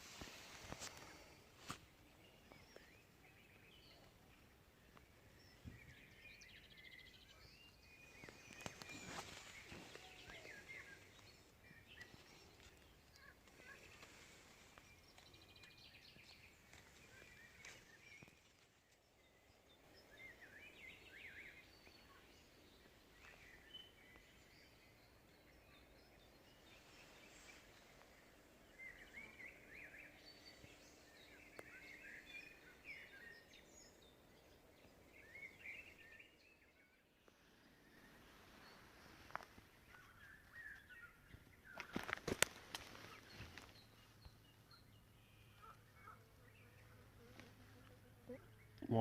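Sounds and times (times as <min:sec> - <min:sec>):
faint songbirds twittering: 0:00.0 - 0:49.0.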